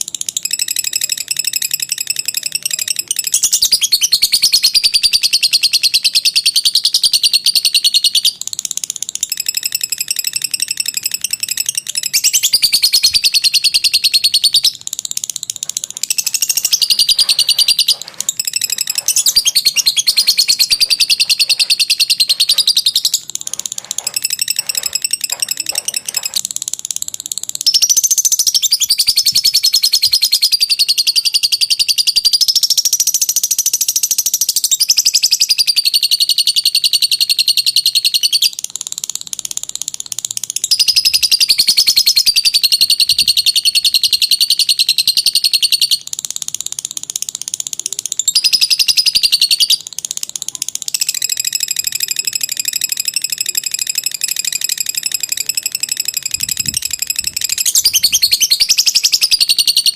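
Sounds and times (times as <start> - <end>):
lovebird chattering trill: 0.2 - 59.9.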